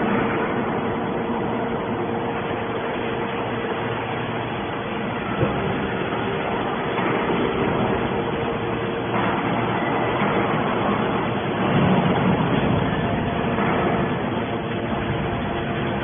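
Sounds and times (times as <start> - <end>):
faint constant hum: 0.0 - 16.0
hydraulic baler running: 0.0 - 16.0.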